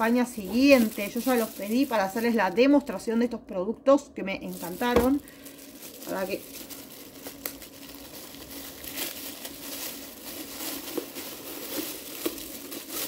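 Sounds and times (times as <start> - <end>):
plastic bag crinkling: 0.0 - 3.1, 4.4 - 13.0.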